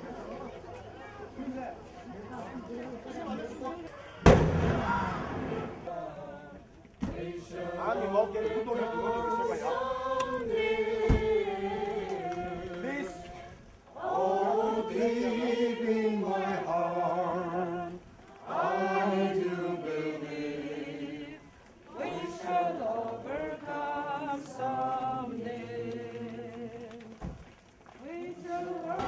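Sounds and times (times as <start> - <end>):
crowd singing in unison: 4.4 - 27.4, 28.0 - 29.0.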